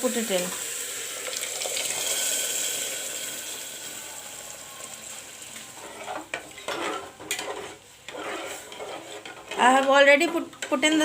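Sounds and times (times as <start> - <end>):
food sizzling in a hot pan: 0.0 - 11.0.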